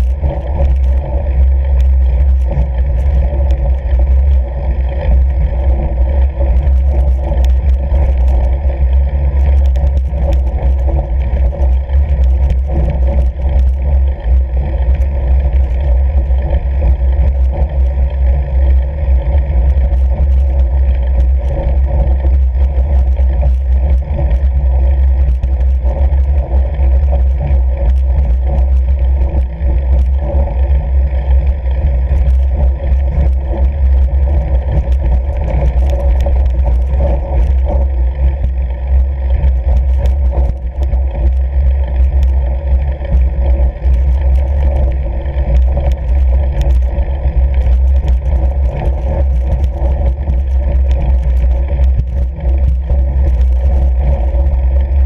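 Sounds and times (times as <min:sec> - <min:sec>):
bike tyres rumbling over snow: 0:00.0 - 0:55.0
small clicks and rattles: 0:00.0 - 0:55.0
wind noise: 0:00.0 - 0:55.0.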